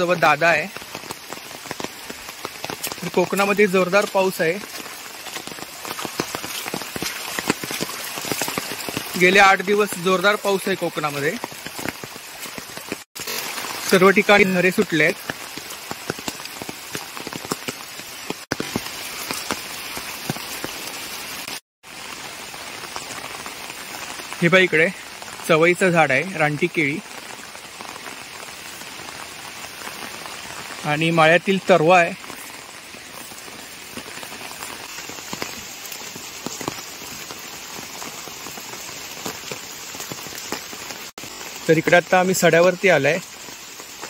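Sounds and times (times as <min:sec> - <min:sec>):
heavy rain falling: 0:00.0 - 0:44.0
raindrops ticking close: 0:00.0 - 0:44.0.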